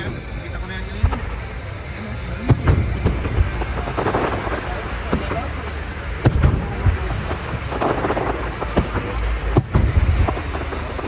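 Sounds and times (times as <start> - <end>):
fireworks bangs: 0.0 - 11.0
low rolling rumble: 0.0 - 11.0.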